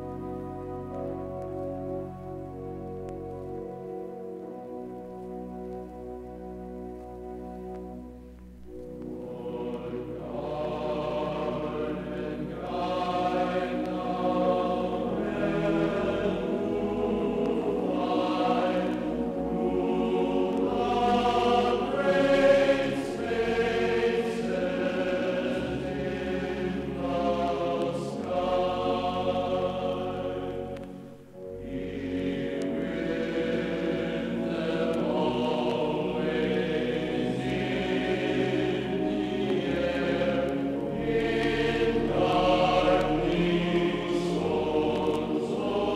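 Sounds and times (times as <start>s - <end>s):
choral voices singing: 8.9s - 45.9s.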